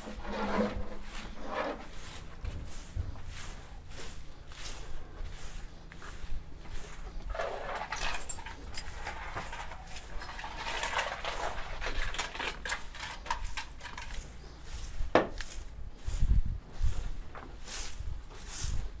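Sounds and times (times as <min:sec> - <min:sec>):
broom sweeping barn floor: 0:00.0 - 0:19.0.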